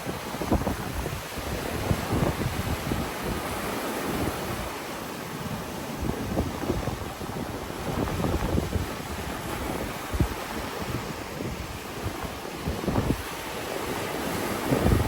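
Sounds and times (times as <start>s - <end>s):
sea waves on a beach: 0.0s - 15.0s
wind buffeting microphone: 0.0s - 15.0s.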